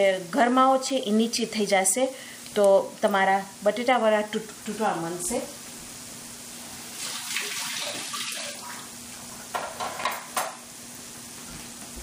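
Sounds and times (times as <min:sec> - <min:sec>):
oil sizzling while deep-frying: 0:00.0 - 0:11.9.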